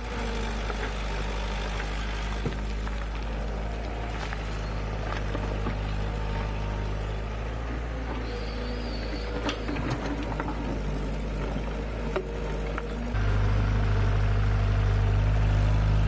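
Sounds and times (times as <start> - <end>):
machine engine humming: 0.0 - 16.0.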